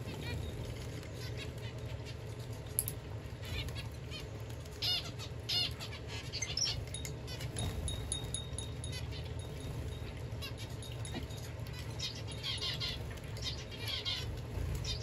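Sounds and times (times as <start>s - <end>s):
finches chirping and beeping: 0.0s - 15.0s
wing flutters: 0.0s - 15.0s.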